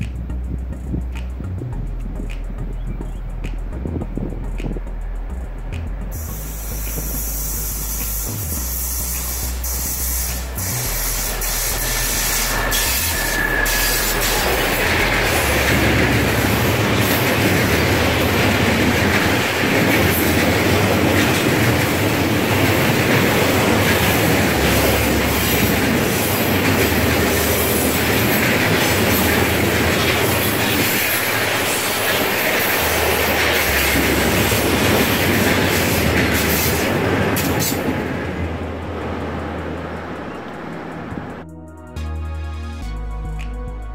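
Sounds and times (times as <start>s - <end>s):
train wheels rumbling on track: 0.0s - 41.4s
freight train passing: 0.0s - 42.5s.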